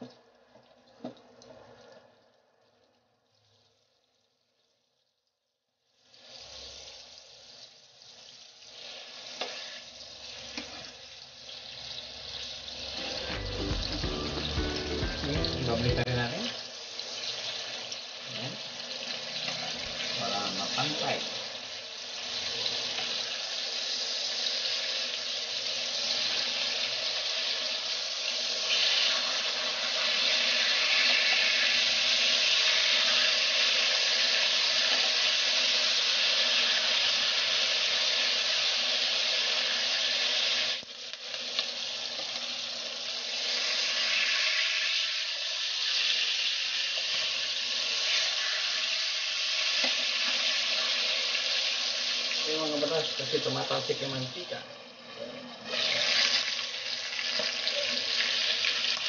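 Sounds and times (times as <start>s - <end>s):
pork sizzling in a frying pan: 0.0s - 1.0s, 3.5s - 59.0s.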